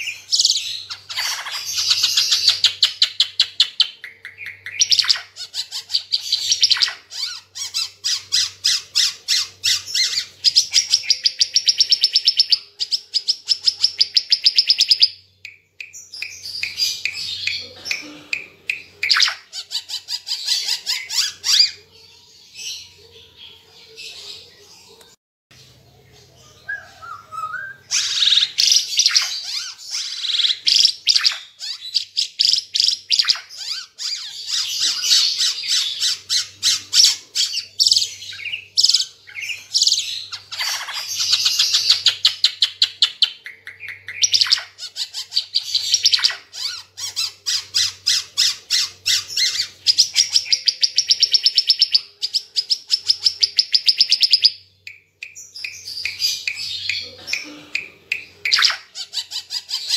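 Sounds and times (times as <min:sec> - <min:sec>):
songbird chirps and trills: 0:00.0 - 0:59.9.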